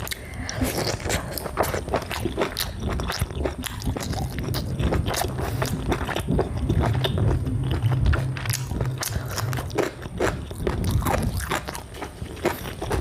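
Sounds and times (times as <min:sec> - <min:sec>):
low steady hum: 0:00.0 - 0:13.0
person chewing and biting food: 0:00.0 - 0:13.0.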